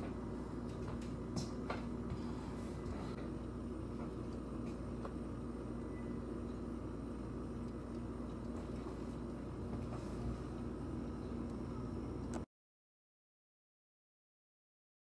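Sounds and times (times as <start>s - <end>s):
low room hum: 0.0s - 12.5s.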